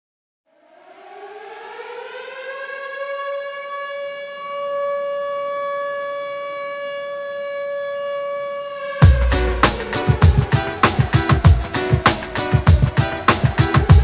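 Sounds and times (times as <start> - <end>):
air-raid siren wailing: 0.5 - 14.0.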